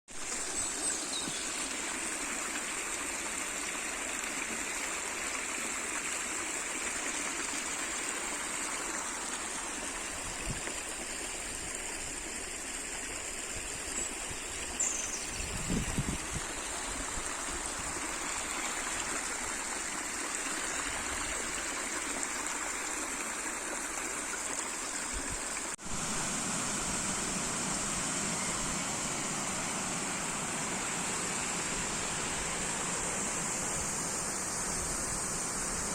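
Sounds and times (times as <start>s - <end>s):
stream babbling: 0.2s - 35.9s.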